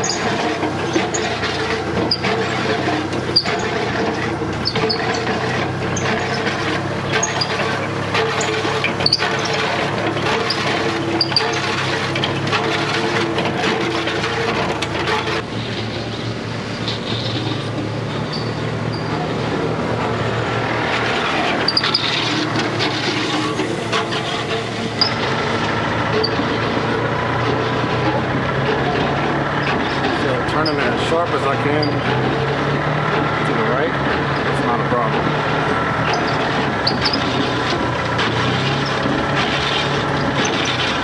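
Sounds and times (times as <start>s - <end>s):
small vehicle engine running: 0.0s - 41.0s.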